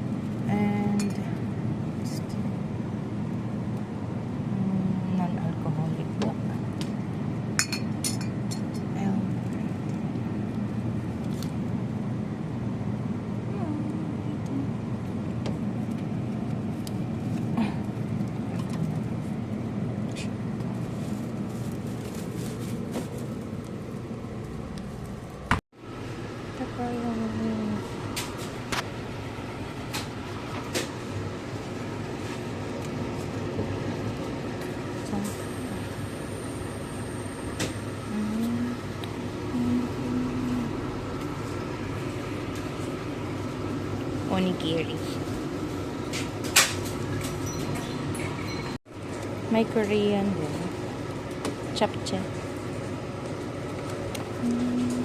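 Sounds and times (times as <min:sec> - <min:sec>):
low hum and murmur: 0:00.0 - 0:55.0.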